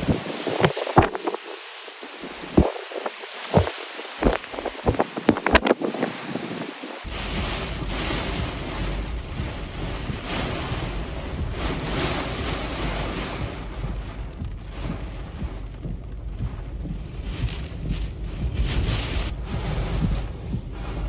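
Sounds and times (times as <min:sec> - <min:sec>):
strong wind gusting: 0:00.0 - 0:21.0
wind buffeting microphone: 0:00.0 - 0:21.0.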